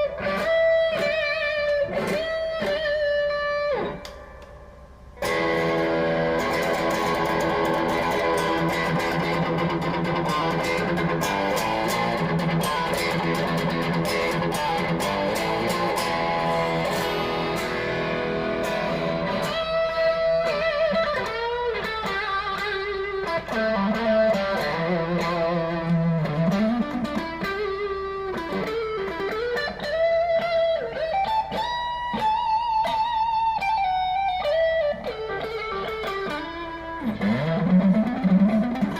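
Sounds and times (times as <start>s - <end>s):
electric guitar through an amp: 0.0s - 38.9s.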